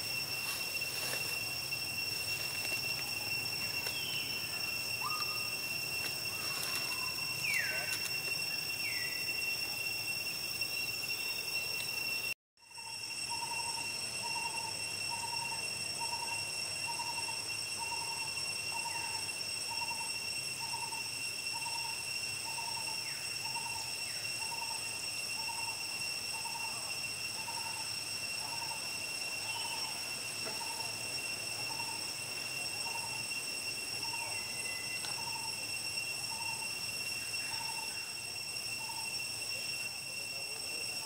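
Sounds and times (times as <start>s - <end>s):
steady high-pitched drone: 0.0s - 41.0s.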